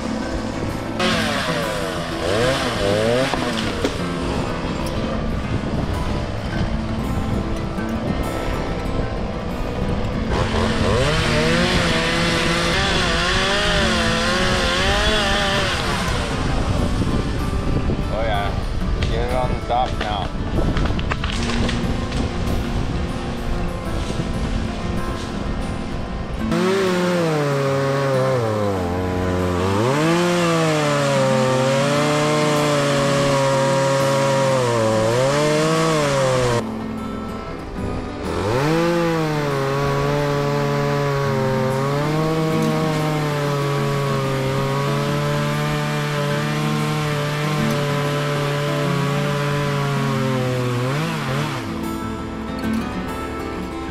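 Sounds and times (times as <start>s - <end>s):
chainsaw cutting wood: 0.0s - 6.9s, 10.1s - 18.3s, 19.8s - 24.6s, 26.4s - 36.8s, 38.1s - 52.7s.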